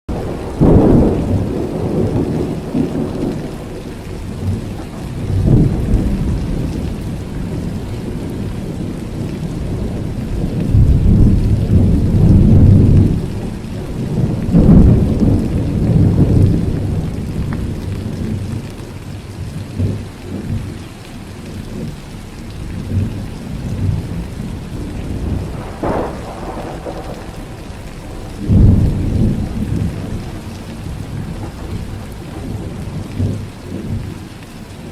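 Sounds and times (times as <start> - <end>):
heavy rain: 0.1 - 34.9
thunder rumbling: 0.1 - 34.9.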